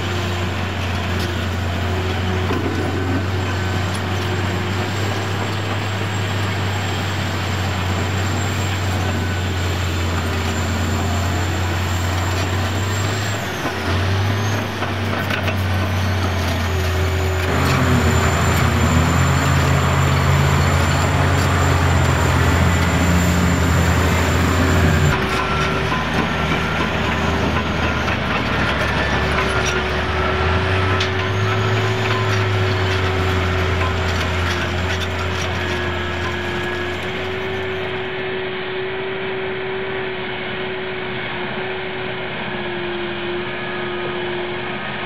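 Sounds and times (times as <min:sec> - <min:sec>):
heavy diesel machinery engines: 0:00.0 - 0:45.0.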